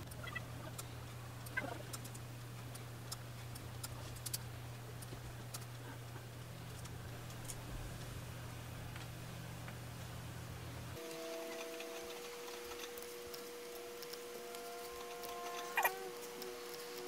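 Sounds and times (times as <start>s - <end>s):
low computer hum: 0.0s - 17.0s.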